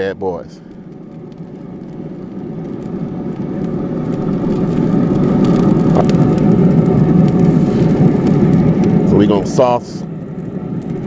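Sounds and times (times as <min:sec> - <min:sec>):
distant engine rumble: 0:00.0 - 0:11.0.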